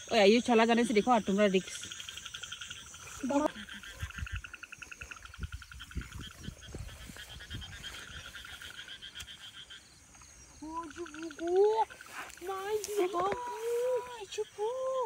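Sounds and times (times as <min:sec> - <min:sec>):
frogs trilling: 0:00.0 - 0:15.0.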